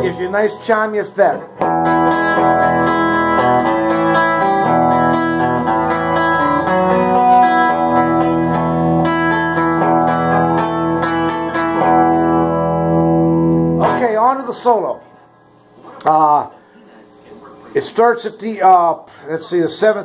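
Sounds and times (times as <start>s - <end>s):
electric twelve-string guitar chords: 0.0s - 16.2s.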